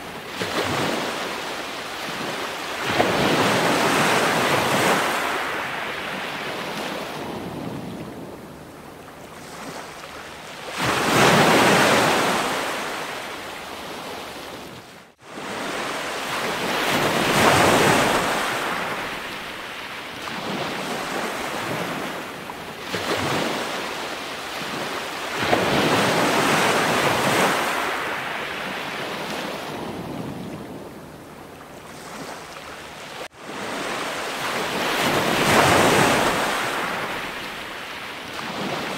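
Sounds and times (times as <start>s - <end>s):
ocean waves washing: 0.0s - 38.9s.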